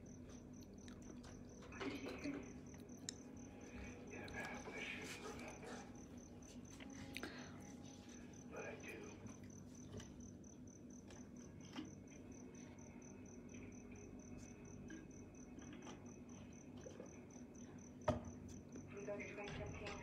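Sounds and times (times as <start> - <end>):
insect chirping: 0.0 - 20.0.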